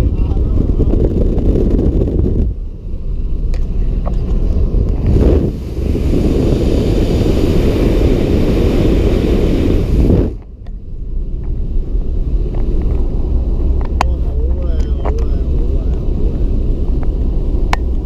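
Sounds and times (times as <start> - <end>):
road noise inside car: 0.0 - 18.0
wind rushing over microphone: 0.0 - 18.0.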